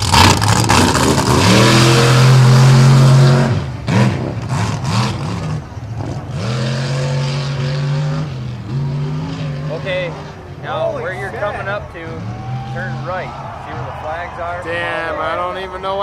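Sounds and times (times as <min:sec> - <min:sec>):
truck engine revving hard: 0:00.0 - 0:14.0.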